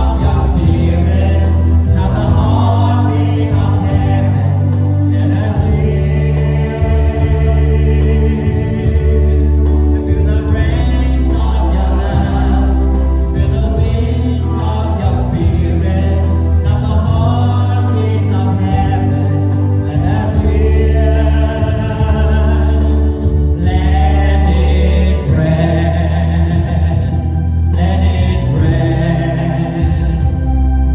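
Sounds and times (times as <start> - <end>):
band playing: 0.0 - 30.9
group singing gospel praise song: 0.0 - 30.9
held bass notes: 0.0 - 30.9.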